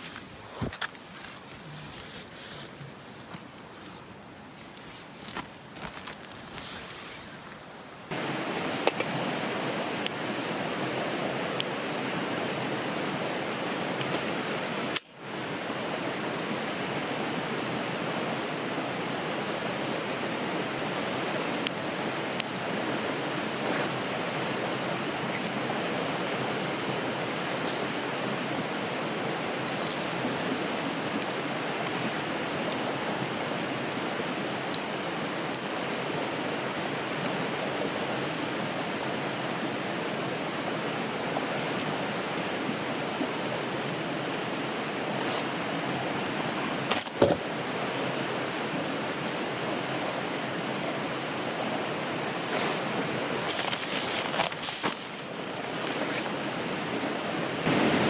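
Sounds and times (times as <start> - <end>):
river water flowing: 0.0 - 8.5, 15.4 - 58.0.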